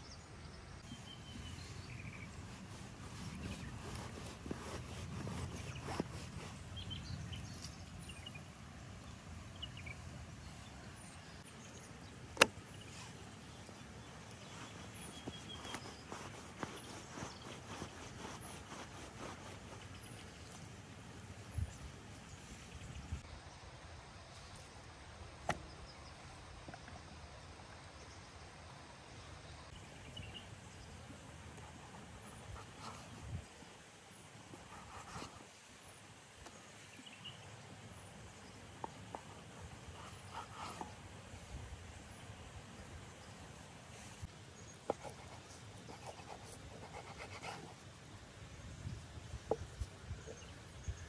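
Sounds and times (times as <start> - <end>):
low background noise: 0.0 - 51.0.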